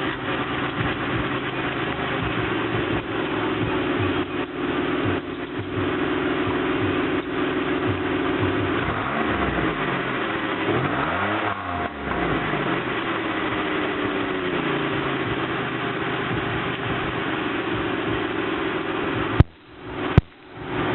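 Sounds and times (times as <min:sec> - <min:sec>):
car engine revving and idling: 0:00.0 - 0:20.9.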